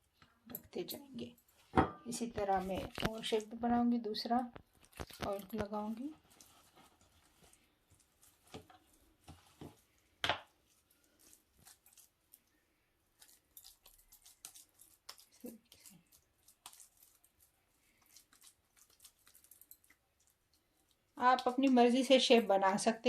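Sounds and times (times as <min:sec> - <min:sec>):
hands squishing potato mixture: 0:02.1 - 0:22.9.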